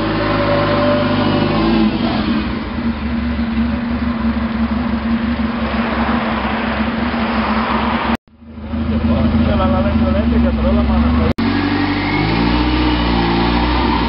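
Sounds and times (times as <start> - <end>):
car engine burbling: 0.0 - 14.0.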